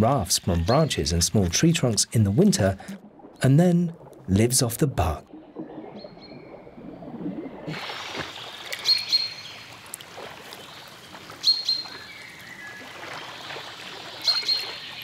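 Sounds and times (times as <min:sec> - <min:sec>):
water lapping and splashing: 0:00.7 - 0:15.0.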